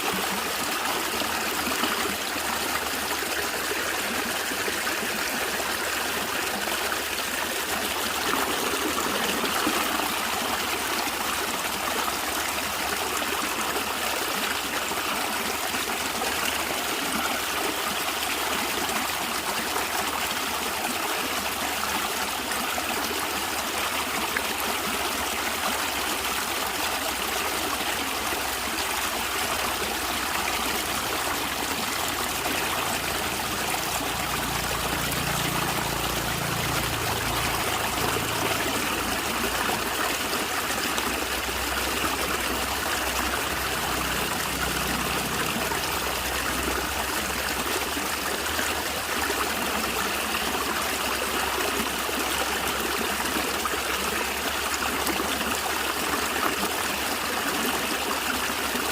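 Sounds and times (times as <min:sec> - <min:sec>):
stream flowing and gurgling: 0:00.0 - 0:58.9.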